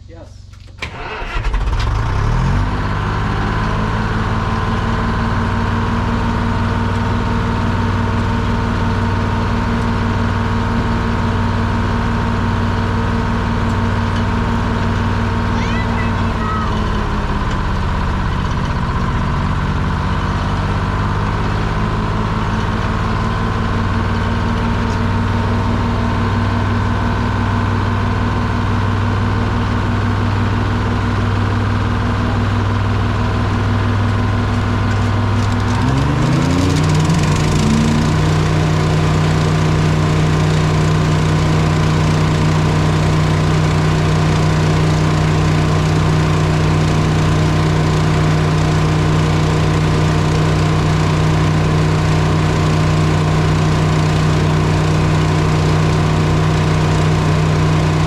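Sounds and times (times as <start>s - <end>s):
diesel engine idling: 0.1s - 58.0s.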